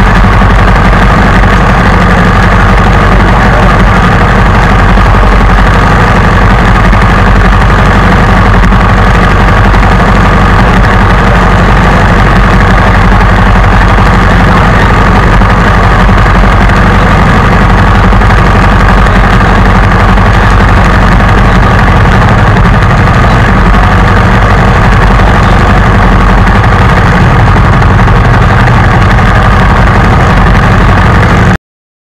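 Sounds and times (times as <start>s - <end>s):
engine idling: 0.0s - 31.6s.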